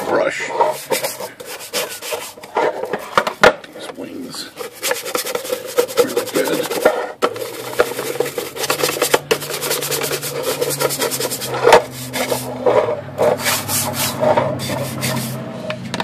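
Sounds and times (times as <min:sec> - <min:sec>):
bristle brush scrubbing metal lid: 0:00.0 - 0:03.2, 0:03.8 - 0:15.4.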